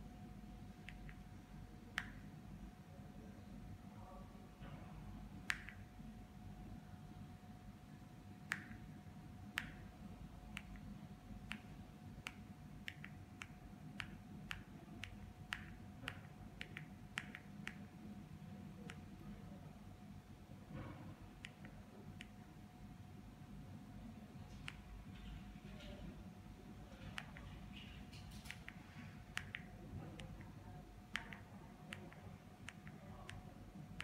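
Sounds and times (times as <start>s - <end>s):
faint high hum: 0.0s - 34.0s.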